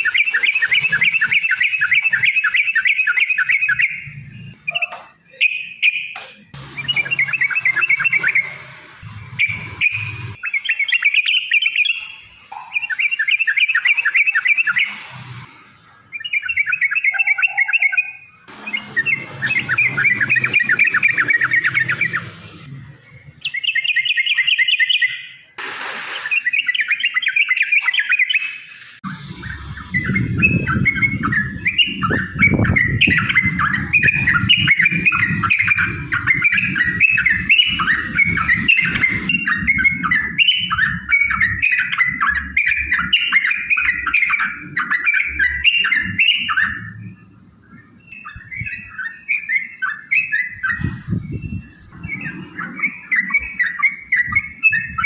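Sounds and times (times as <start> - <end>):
bird song with rolling chatter: 0.0 - 25.6, 26.2 - 55.0.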